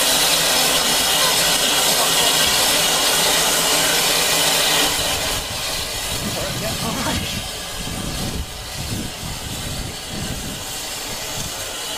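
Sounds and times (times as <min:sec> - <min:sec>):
steam locomotive hissing steam: 0:00.0 - 0:11.9.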